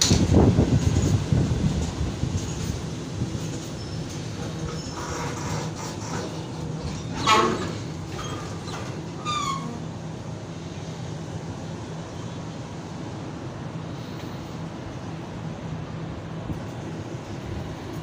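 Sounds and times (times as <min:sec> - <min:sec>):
constant low hum: 0:00.0 - 0:18.0
train rolling along track: 0:00.0 - 0:18.0.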